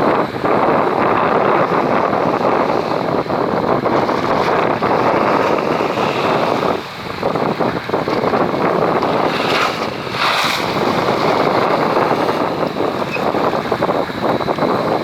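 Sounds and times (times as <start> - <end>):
sea rushing: 0.0 - 15.0
wind on microphone: 0.0 - 15.0.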